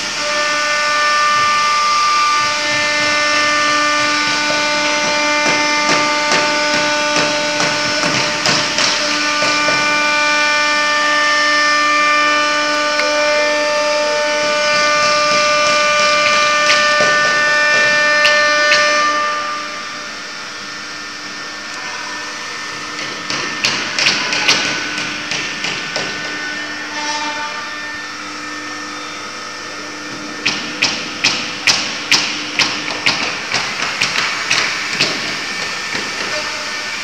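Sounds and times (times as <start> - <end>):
wood router spindle running: 0.0 - 37.0.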